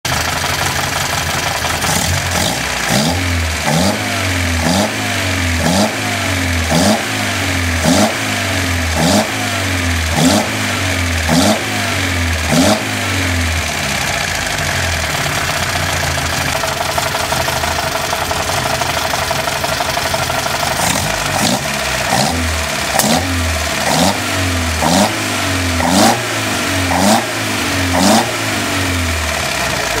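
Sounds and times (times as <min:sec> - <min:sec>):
car engine revving and idling: 0:00.1 - 0:30.0.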